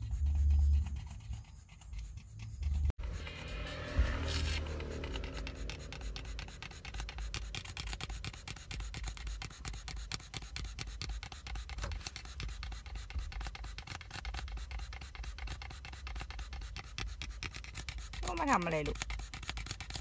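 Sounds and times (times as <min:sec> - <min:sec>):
dog panting: 0:00.0 - 0:02.9, 0:05.0 - 0:20.0.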